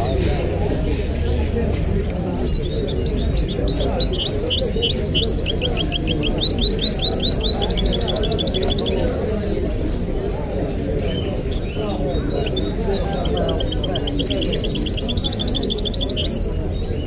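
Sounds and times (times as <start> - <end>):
crowd murmur: 0.0 - 17.0
finch singing: 1.0 - 9.7, 10.4 - 17.0.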